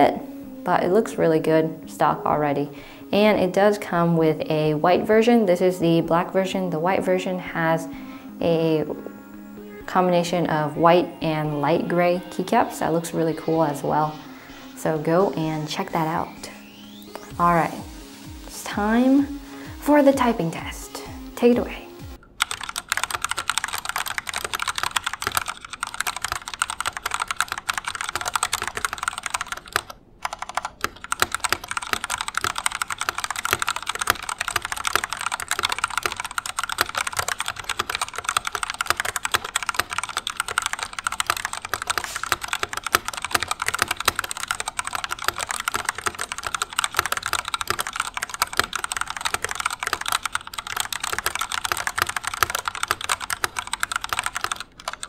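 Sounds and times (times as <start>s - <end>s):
mechanical keyboard typing: 2.2s - 9.1s, 14.9s - 55.0s.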